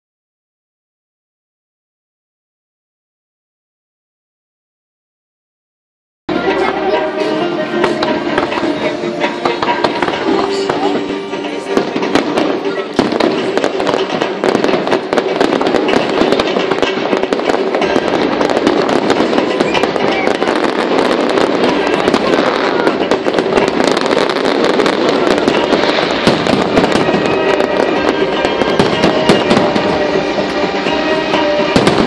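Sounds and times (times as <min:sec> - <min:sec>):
fireworks bangs and crackles: 0:06.3 - 0:32.0
music playing: 0:06.3 - 0:32.0.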